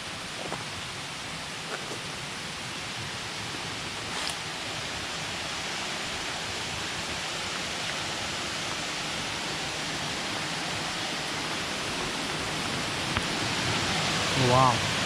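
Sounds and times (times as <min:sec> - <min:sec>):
water rushing over a dam: 0:00.0 - 0:15.0.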